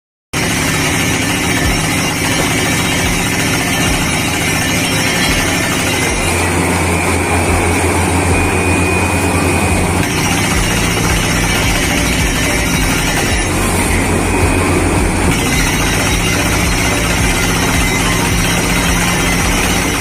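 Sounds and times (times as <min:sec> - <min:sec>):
drilling machine motor running: 0:00.4 - 0:20.0.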